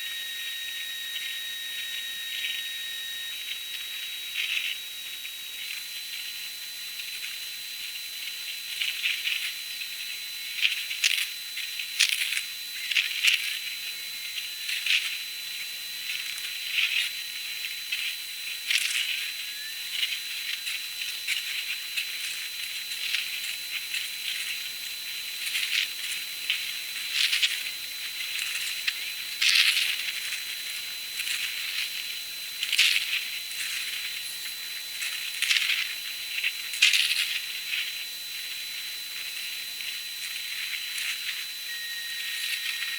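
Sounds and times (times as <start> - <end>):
thin constant whine: 0.0 - 42.9.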